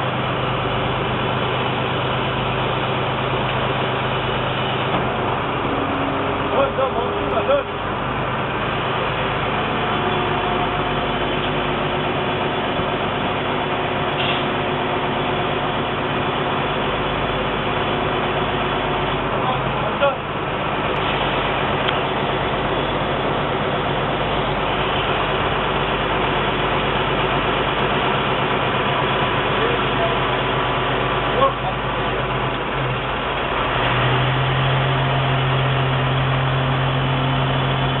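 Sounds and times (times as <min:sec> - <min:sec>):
diesel compressor droning: 0:00.0 - 0:38.0.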